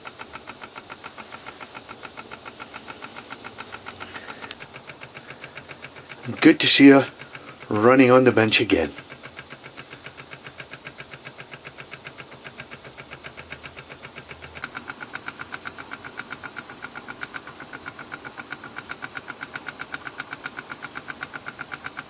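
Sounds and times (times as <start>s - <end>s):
steam engine exhaust puffs: 0.0s - 22.0s
steam hiss: 0.0s - 22.0s.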